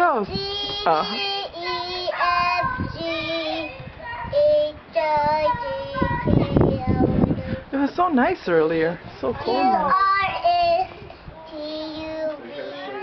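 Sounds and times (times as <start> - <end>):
toddler singing: 0.3 - 7.6, 9.4 - 13.0.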